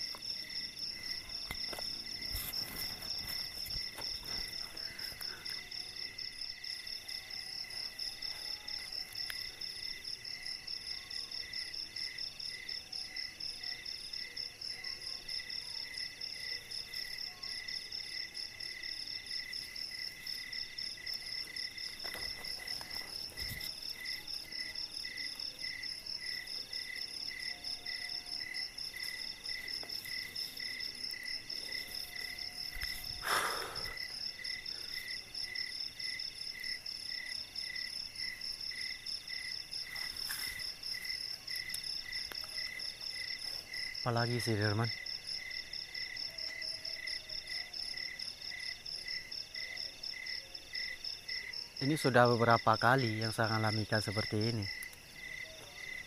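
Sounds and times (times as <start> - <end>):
night insects trilling: 0.0 - 56.0.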